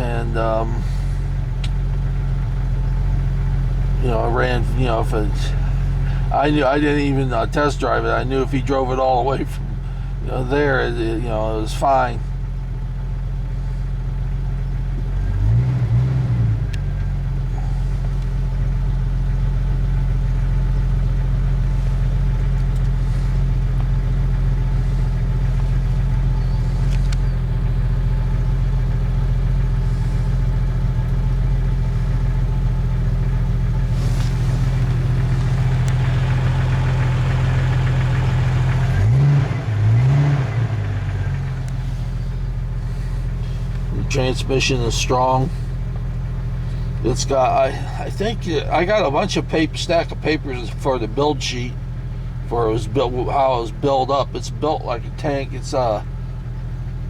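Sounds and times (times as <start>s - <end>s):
car engine idling: 0.0s - 57.0s
car engine revving: 0.0s - 57.0s.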